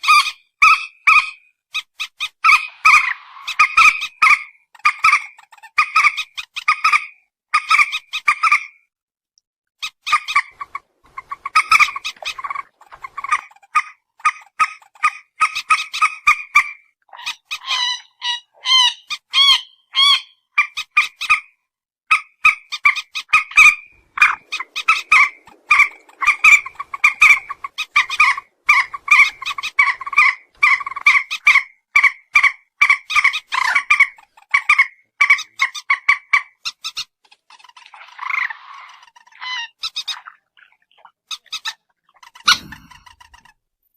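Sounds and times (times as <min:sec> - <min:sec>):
bird calling: 0:00.0 - 0:08.8, 0:09.8 - 0:21.4, 0:22.1 - 0:43.6.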